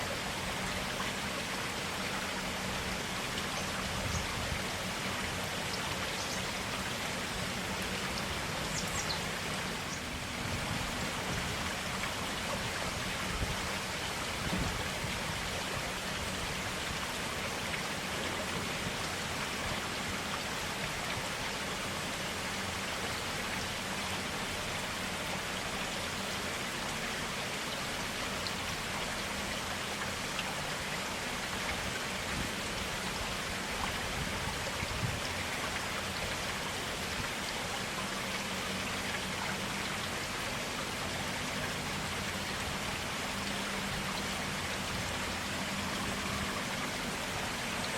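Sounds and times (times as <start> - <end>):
stream splashing over stones: 0.0 - 47.9.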